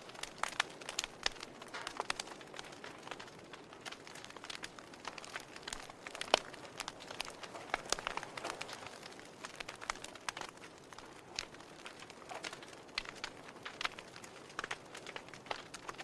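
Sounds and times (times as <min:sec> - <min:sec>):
soft fire hiss: 0:00.0 - 0:16.0
wood fire crackling and popping: 0:00.0 - 0:16.0.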